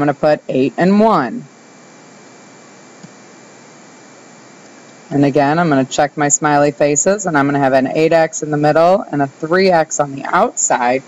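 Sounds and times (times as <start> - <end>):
microphone hiss: 0.0 - 11.0.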